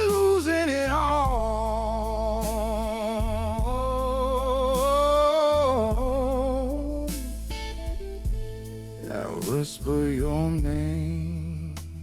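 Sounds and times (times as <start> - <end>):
person singing with vibrato: 0.0 - 7.7, 9.0 - 12.0
blues band backing: 0.0 - 12.0.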